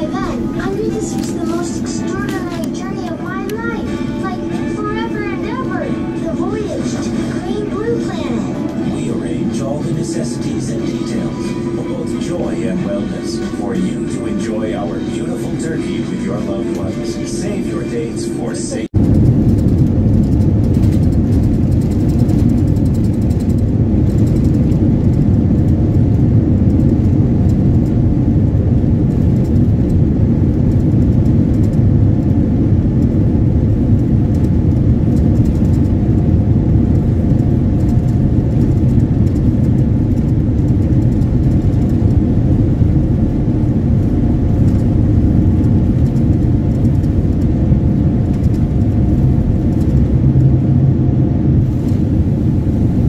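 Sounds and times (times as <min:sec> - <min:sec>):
aircraft cabin low rumble: 0:00.0 - 0:53.0.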